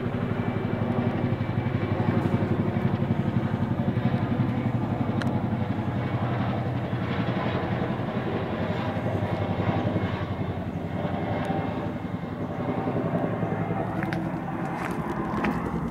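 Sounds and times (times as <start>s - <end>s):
helicopter rotor beat: 0.0s - 15.9s.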